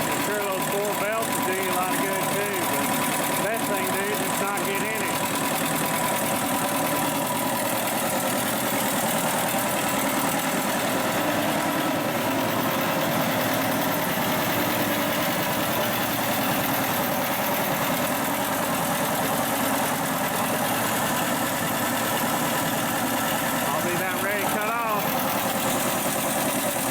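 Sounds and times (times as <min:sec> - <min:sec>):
air compressor running: 0:00.0 - 0:26.9.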